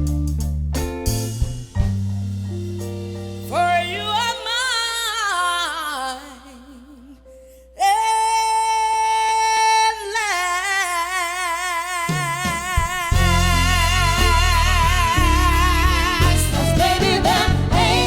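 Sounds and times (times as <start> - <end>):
woman singing soul: 3.4 - 18.0.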